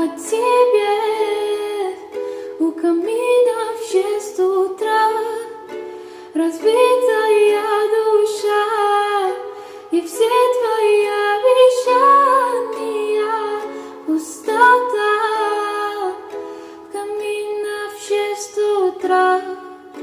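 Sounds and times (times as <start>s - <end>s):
ukulele: 0.0s - 20.0s
woman singing slow melody: 0.0s - 20.0s.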